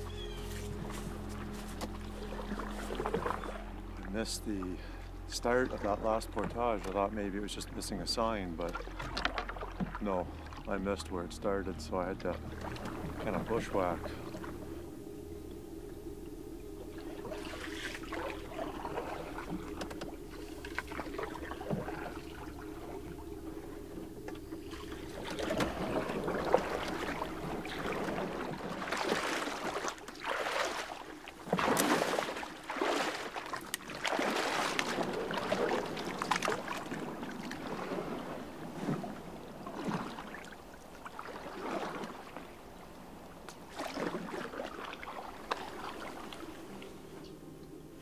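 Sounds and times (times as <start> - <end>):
paddle sloshing water: 0.0 - 15.2, 15.8 - 47.9
grass rustling against hull: 0.0 - 47.8.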